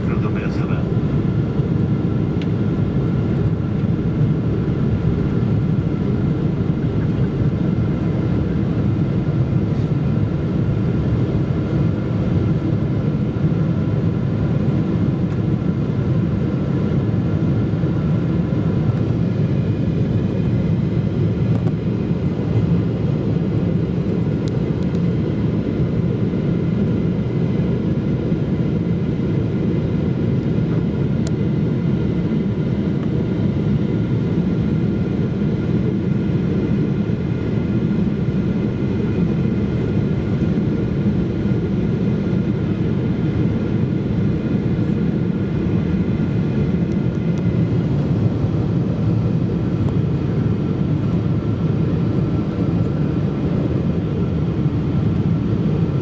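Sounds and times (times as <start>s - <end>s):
airliner cabin engine roar: 0.0s - 56.0s.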